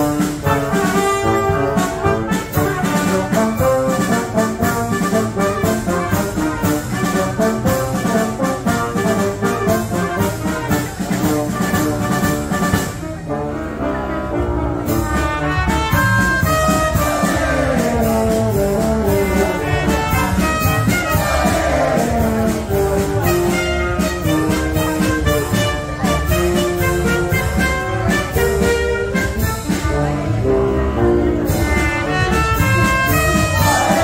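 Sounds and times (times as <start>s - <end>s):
steady drum beat: 0.0s - 13.1s, 14.9s - 30.0s, 31.5s - 34.0s
wind band playing: 0.0s - 34.0s.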